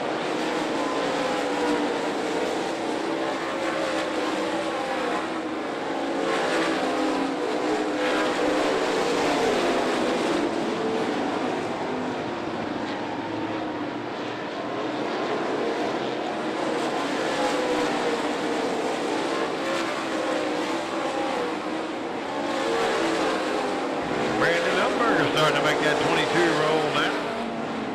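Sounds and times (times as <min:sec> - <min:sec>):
race car engines: 0:00.0 - 0:27.9.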